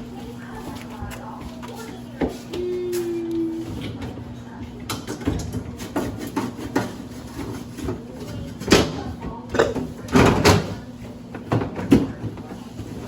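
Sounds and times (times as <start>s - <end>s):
grocery items clattering: 0.0s - 13.0s.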